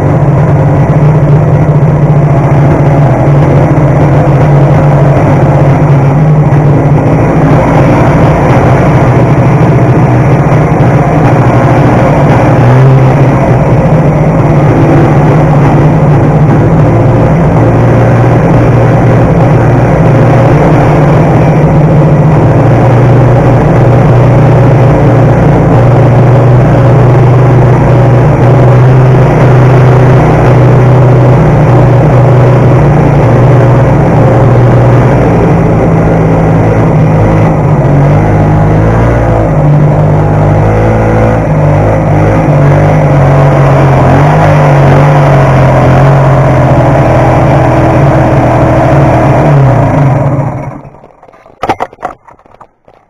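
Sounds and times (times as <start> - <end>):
snowmobile engine running: 0.0 - 53.0.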